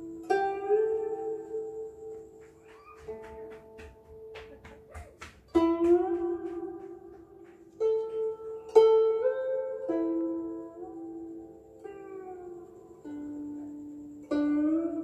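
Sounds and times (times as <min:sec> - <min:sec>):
plucked zither: 0:00.0 - 0:15.0.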